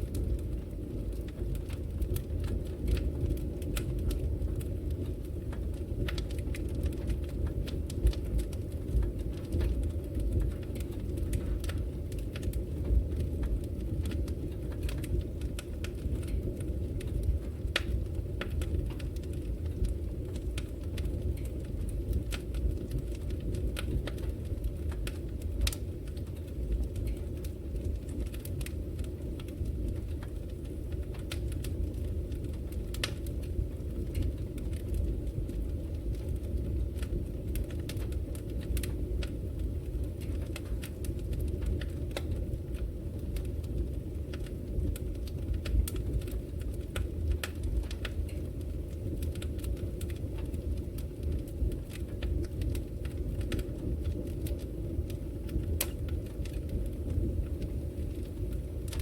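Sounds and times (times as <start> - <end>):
burning logs crackling and popping: 0.0 - 59.0
rumble of fire flames: 0.0 - 59.0.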